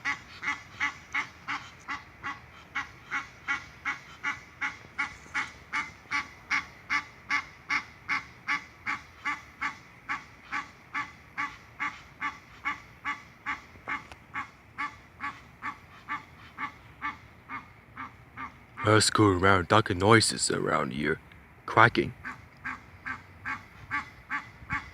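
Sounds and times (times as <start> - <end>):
goose honking: 0.0 - 19.2, 22.2 - 24.9.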